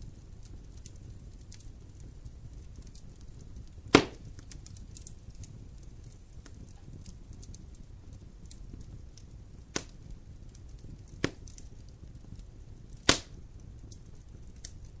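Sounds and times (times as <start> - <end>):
low rumble of fire: 0.0 - 15.0
sharp pops from fire: 0.0 - 15.0
wood fire crackling: 0.0 - 15.0.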